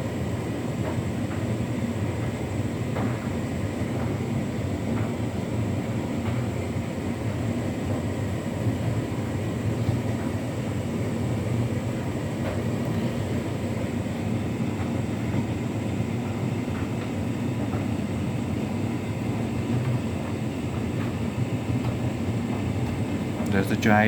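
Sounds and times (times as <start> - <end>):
tumble dryer humming: 0.0 - 24.0.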